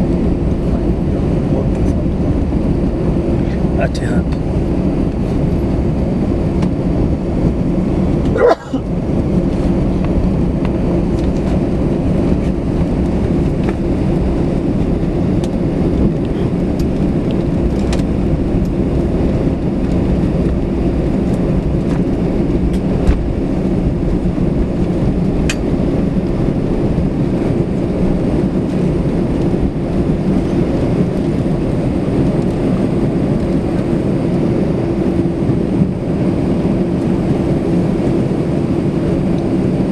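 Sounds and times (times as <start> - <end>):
cabin rumble with hum: 0.0 - 39.9
jet engines idling: 0.0 - 39.9.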